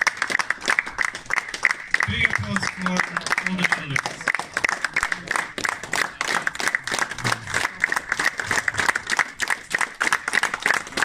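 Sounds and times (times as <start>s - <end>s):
group applauding: 0.0s - 11.0s.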